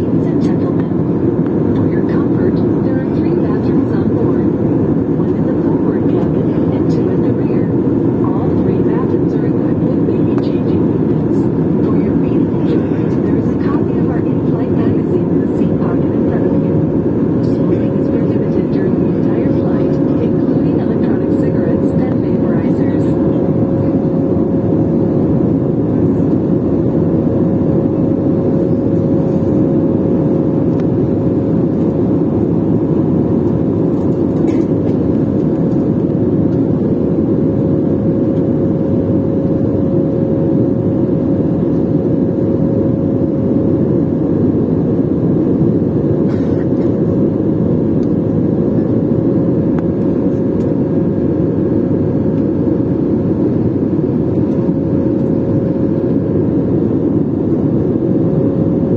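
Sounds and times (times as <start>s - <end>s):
faint hum: 0.0s - 58.9s
jet engine roar: 0.0s - 58.9s.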